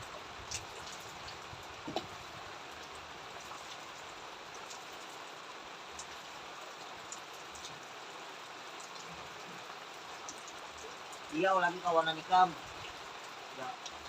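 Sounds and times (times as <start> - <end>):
steady rain falling: 0.0 - 14.0
raindrop ticks: 0.4 - 2.2, 2.8 - 5.2, 5.9 - 7.9, 8.7 - 14.0.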